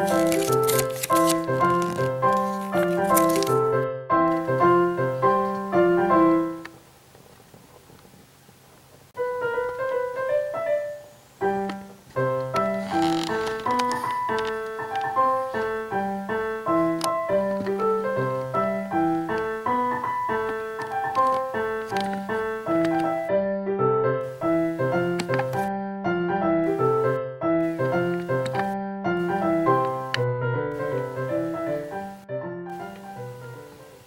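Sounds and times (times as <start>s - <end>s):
piano-like keyboard music: 0.0s - 7.1s, 9.1s - 34.0s.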